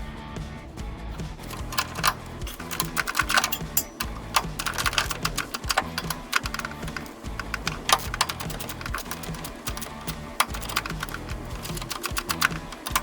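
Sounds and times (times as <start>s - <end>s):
ratchet wrench clicking: 1.4s - 13.0s.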